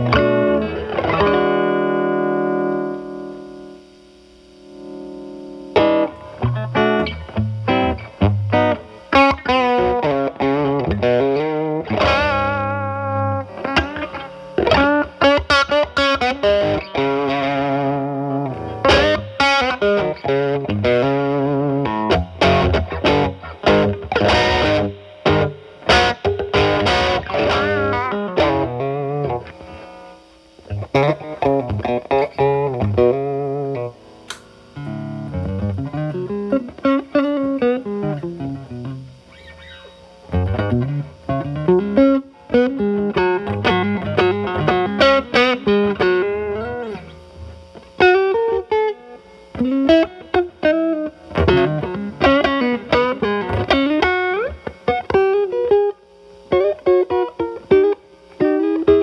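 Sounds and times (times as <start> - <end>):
overdriven electric guitar lead: 0.0 - 59.0.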